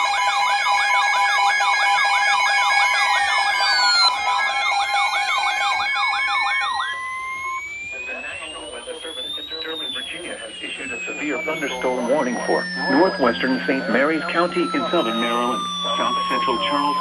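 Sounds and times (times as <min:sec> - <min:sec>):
beeping alarm tones: 0:00.0 - 0:17.0
fast electronic siren sweeping: 0:00.0 - 0:17.0
gliding electronic tone: 0:03.3 - 0:17.0.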